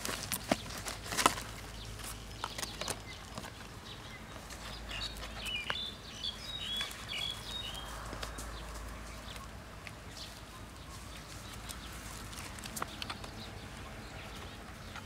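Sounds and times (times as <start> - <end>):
bird chirping: 0.4 - 15.0.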